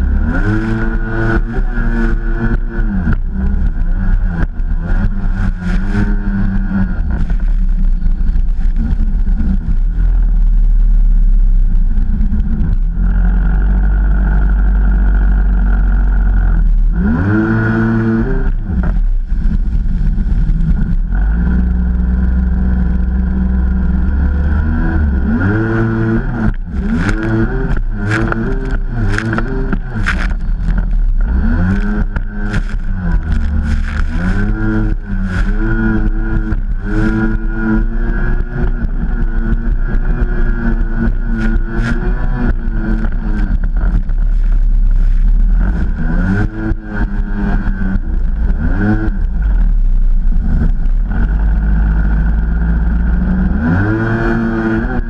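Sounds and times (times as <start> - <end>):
jet ski engine running: 0.0 - 16.9, 17.9 - 53.6
wind noise: 0.0 - 55.0.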